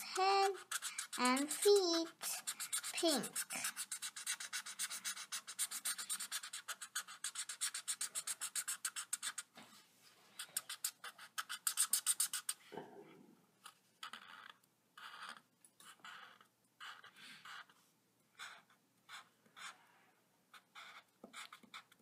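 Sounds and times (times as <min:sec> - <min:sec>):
marker scribbling on paper: 0:00.0 - 0:09.5, 0:10.4 - 0:12.6, 0:13.6 - 0:17.8, 0:18.4 - 0:19.8, 0:20.5 - 0:22.0.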